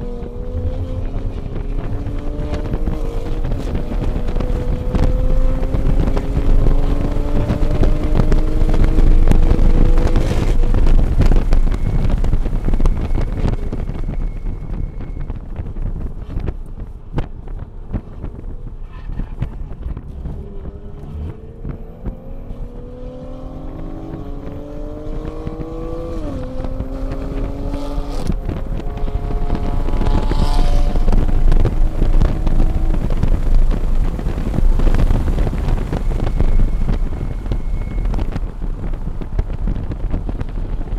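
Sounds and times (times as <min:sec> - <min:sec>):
car engine accelerating: 0:00.0 - 0:40.9
wind and road noise: 0:00.0 - 0:40.9.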